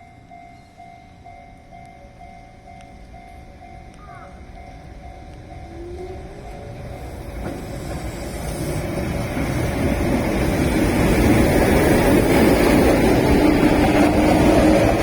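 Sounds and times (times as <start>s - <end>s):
electric train approaching: 0.0s - 15.0s.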